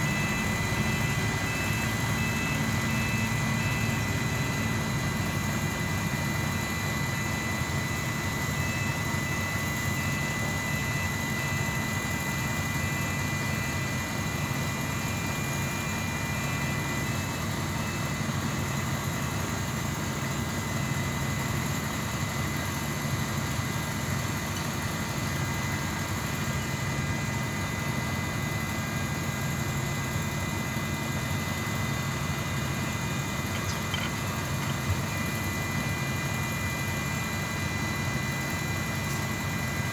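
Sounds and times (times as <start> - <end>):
engine running steadily: 0.0 - 39.9
thin steady whine: 0.0 - 39.9.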